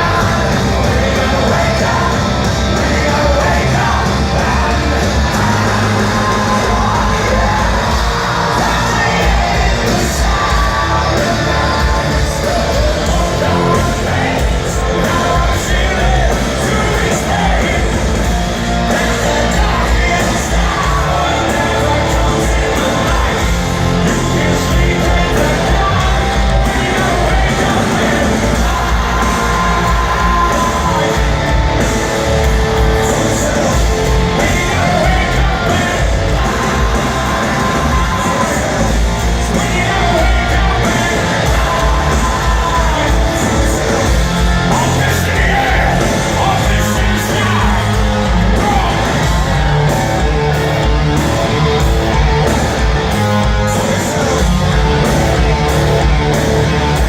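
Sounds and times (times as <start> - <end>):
bass guitar: 0.0 - 57.0
distorted electric guitars: 0.0 - 57.0
drums: 0.0 - 57.0
person singing lead vocal: 0.0 - 57.0.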